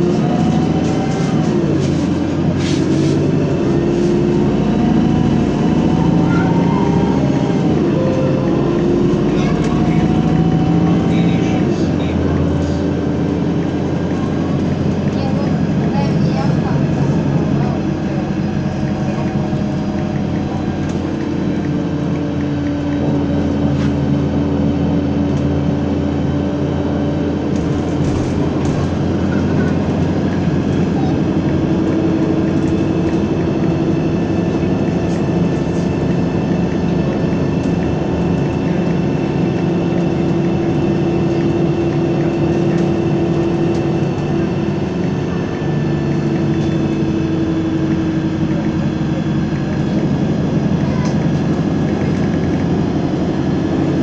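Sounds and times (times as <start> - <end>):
bus engine drone: 0.0 - 54.0
road and rattle noise: 0.0 - 54.0.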